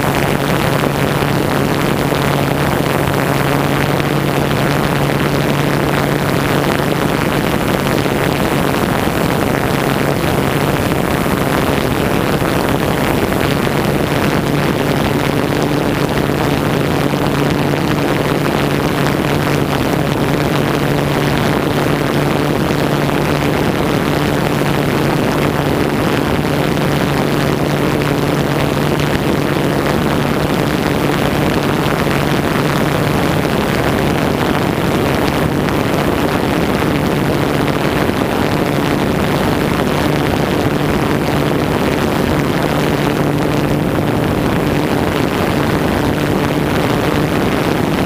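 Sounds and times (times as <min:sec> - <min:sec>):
drone propellers humming: 0:00.0 - 0:48.0.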